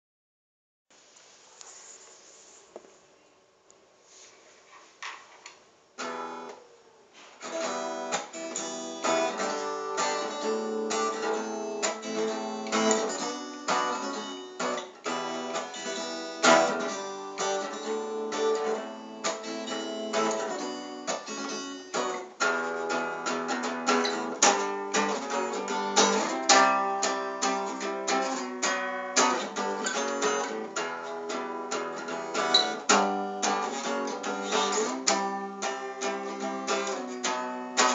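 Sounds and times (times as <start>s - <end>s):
acoustic guitar strumming: 6.0s - 6.6s, 7.4s - 37.9s.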